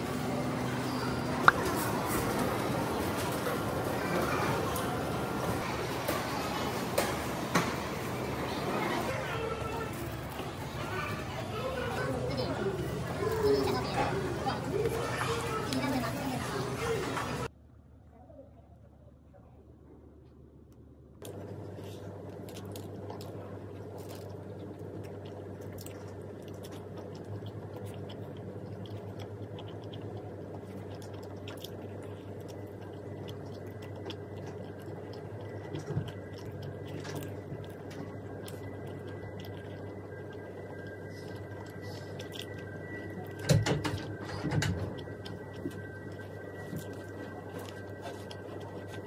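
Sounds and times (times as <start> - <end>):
steady low hum: 0.0 - 49.0
chewing: 0.6 - 17.5, 21.2 - 49.0.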